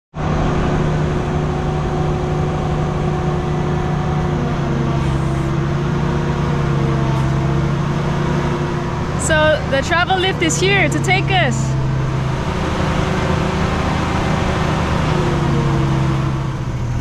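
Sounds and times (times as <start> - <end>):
engine humming: 0.1 - 17.0.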